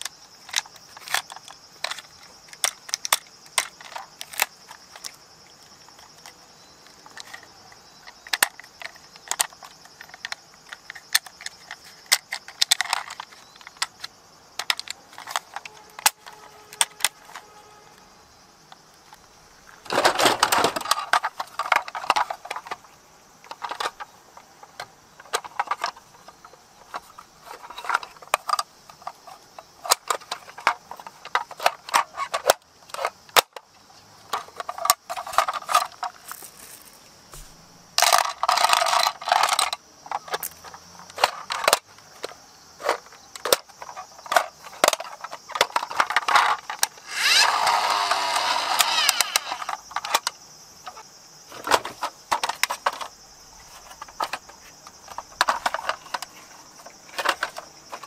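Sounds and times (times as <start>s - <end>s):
plastic toy trucks clacking: 0.0s - 6.4s, 7.0s - 17.5s, 19.8s - 33.6s, 34.3s - 36.5s, 38.0s - 58.0s.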